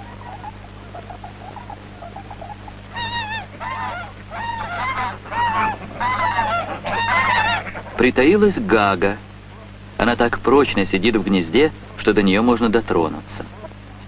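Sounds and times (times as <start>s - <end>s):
snow goose honking: 0.0s - 13.8s.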